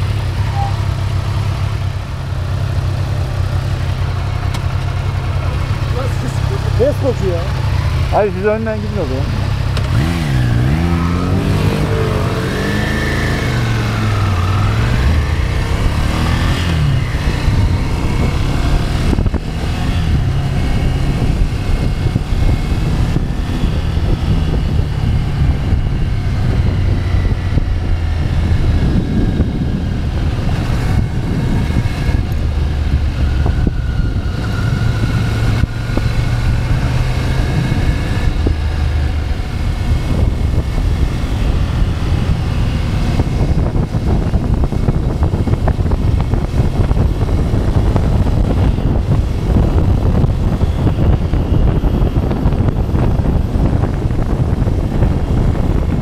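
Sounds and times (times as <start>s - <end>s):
motorcycle engine running: 0.0s - 56.0s
road noise: 0.0s - 56.0s
wind rushing: 5.0s - 56.0s.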